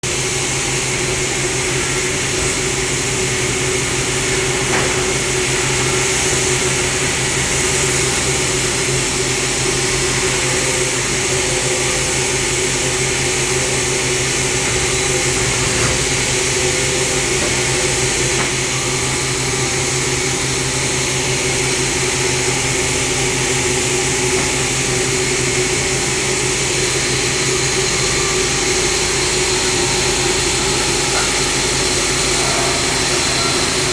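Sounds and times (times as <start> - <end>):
band sawmill machine hum: 0.0 - 33.9.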